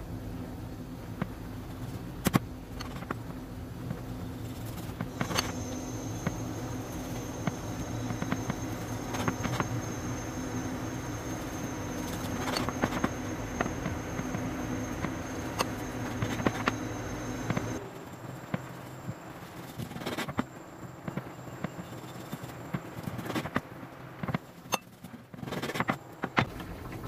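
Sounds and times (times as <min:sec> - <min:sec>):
faint high-pitched whine: 0:00.0 - 0:27.0
steady low hum: 0:00.0 - 0:27.0.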